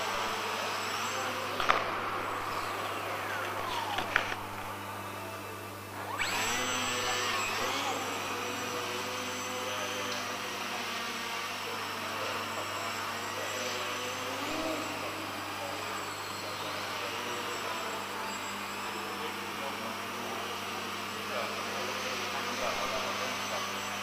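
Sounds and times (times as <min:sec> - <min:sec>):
model aircraft motor whining: 0:00.0 - 0:24.0.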